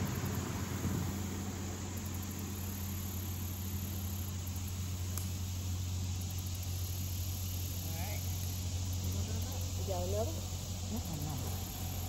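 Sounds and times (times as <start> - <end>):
even hiss: 0.0 - 12.0
low mechanical hum: 0.0 - 12.0.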